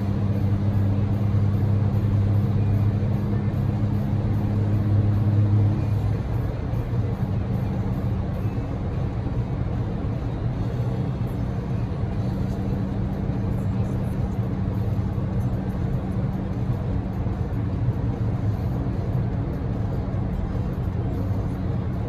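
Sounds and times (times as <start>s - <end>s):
car road and engine drone: 0.0s - 22.0s.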